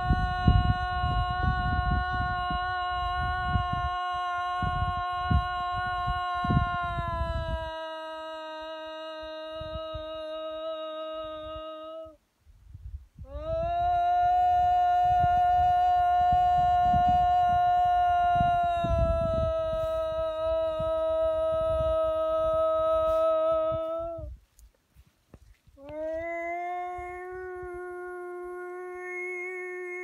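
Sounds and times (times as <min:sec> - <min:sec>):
woman holding a long vowel: 0:00.0 - 0:12.2, 0:13.2 - 0:24.4, 0:25.8 - 0:30.0.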